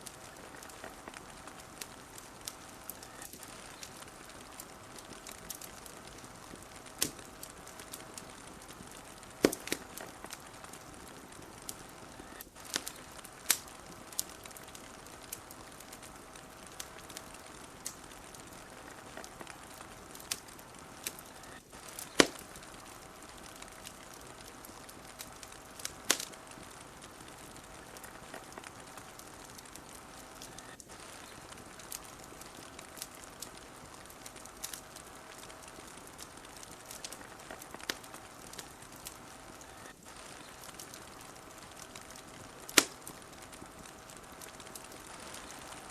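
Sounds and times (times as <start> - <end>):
soft hiss: 0.0 - 45.9
wood fire crackling: 0.0 - 45.9.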